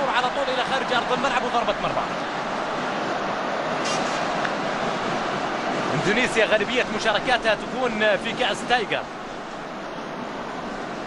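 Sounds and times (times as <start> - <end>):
stadium crowd roar: 0.0 - 11.0.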